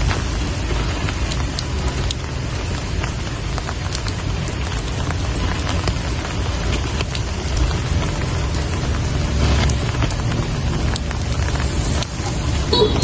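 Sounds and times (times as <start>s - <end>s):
rain drops ticking on a surface: 0.0s - 13.0s
rain hiss: 0.0s - 13.0s.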